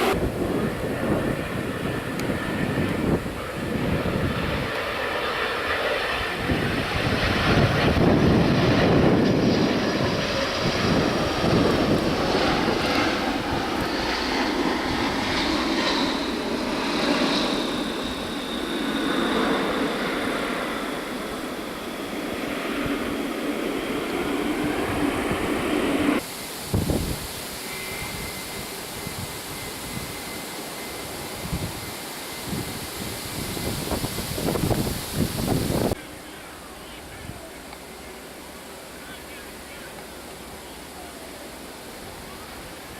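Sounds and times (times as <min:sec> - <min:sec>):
high jet engine whine: 0:00.0 - 0:42.9
jet airliner passing: 0:00.0 - 0:42.9.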